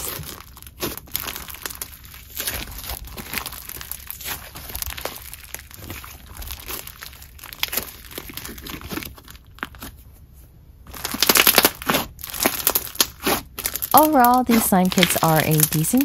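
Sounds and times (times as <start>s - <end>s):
clay slime crackling and crunching: 0.0s - 16.0s.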